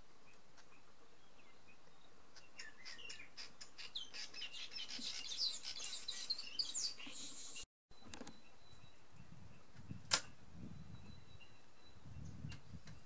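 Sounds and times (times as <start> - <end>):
birds chirping and whistling: 1.3 - 13.0.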